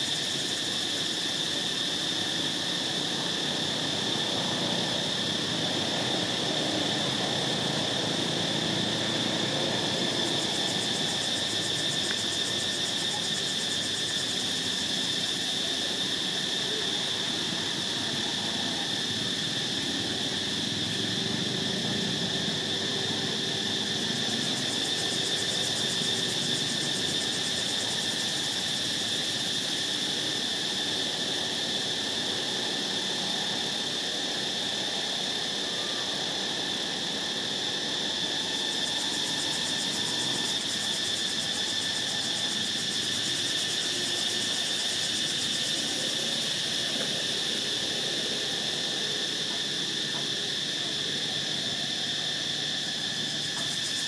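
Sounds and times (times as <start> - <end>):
insect chorus buzzing: 0.0 - 54.0.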